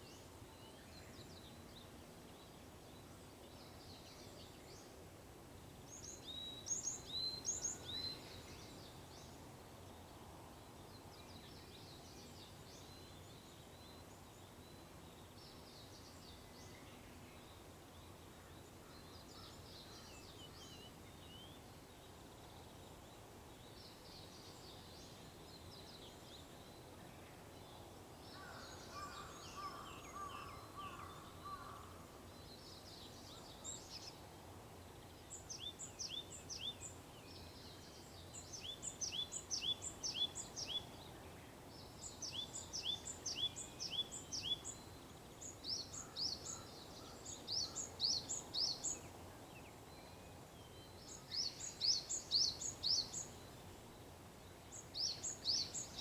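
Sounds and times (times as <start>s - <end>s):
faint outdoor hiss: 0.0s - 56.0s
songbirds singing: 5.8s - 56.0s.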